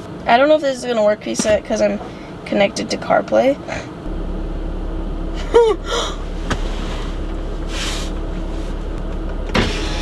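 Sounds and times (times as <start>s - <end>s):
low hum in car cabin: 0.0s - 10.0s.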